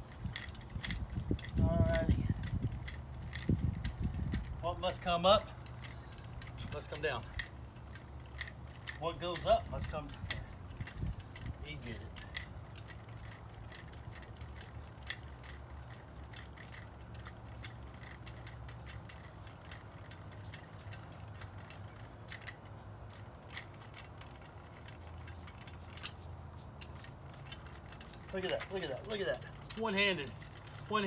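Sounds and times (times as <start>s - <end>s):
steady low rumble: 0.0s - 31.0s
metallic clicks of jack handle: 0.2s - 31.0s.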